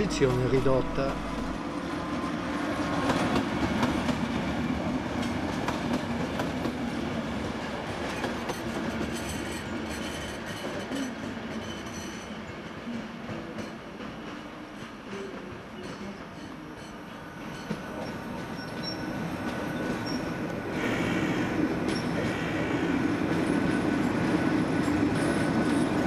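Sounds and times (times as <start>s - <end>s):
train wheels rumbling and clicking: 0.0s - 2.2s, 2.8s - 26.0s.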